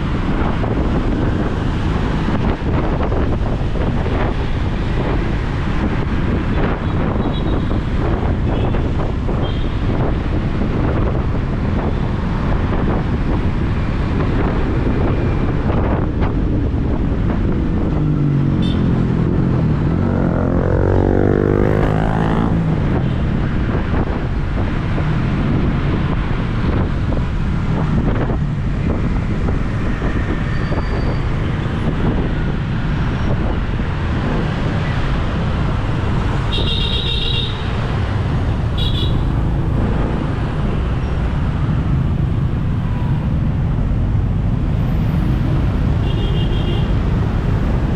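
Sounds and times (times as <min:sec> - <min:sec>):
engine and road rumble: 0:00.0 - 0:47.9.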